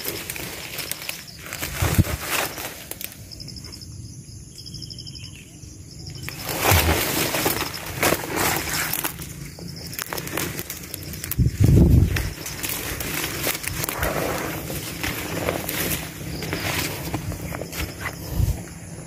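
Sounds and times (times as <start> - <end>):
footsteps crunching on forest floor: 0.0 - 3.8, 6.3 - 19.0
leaves and branches rustling: 0.0 - 4.2, 6.1 - 19.0.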